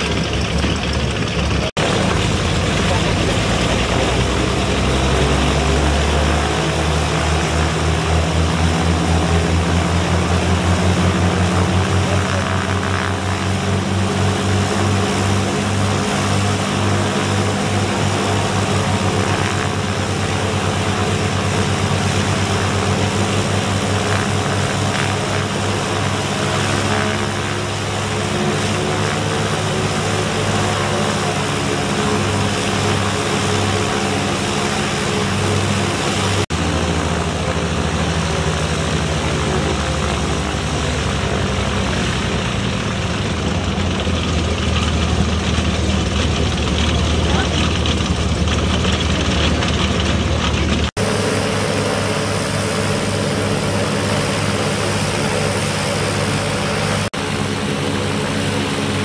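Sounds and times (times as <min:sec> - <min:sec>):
piston aircraft engines running: 0:00.0 - 0:59.0.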